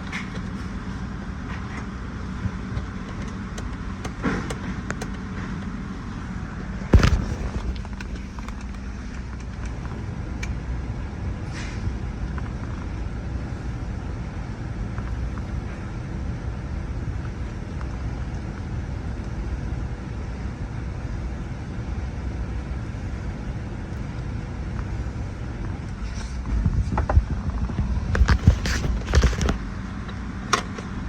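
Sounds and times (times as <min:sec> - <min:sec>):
engine running with low rumble: 0:00.0 - 0:31.0.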